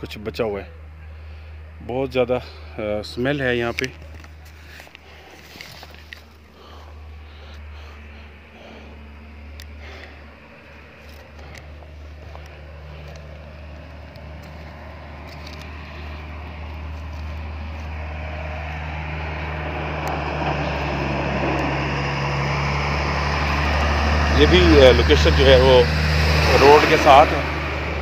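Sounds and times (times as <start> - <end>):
vehicle engine approaching: 0.0 - 28.0.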